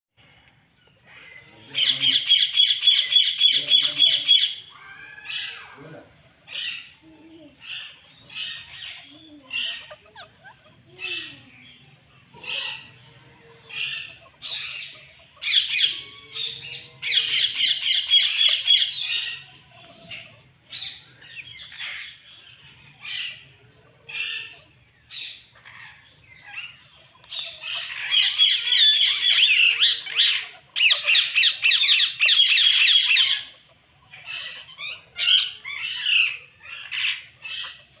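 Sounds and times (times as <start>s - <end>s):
parakeets squawking: 0.4s - 38.0s
parakeets screeching rapidly: 0.7s - 38.0s.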